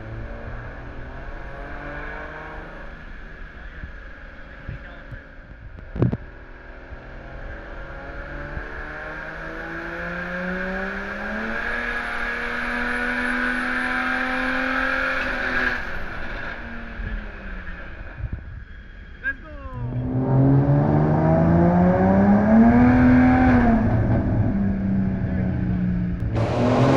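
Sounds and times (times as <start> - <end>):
car engine revving on dyno: 0.0 - 4.0, 6.4 - 17.4, 19.8 - 26.9.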